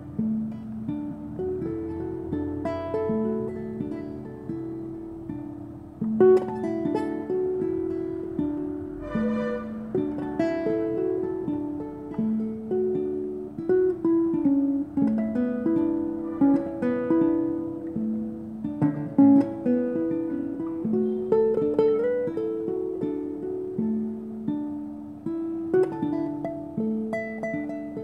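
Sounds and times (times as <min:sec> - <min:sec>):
classical guitar fingerstyle melody: 0:00.0 - 0:28.0.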